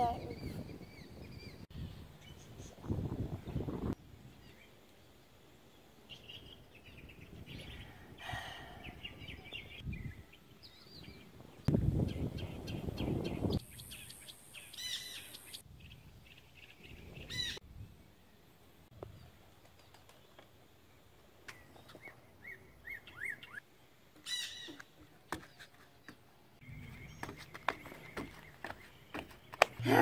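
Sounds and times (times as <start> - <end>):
wild birds chirping: 4.3 - 30.0.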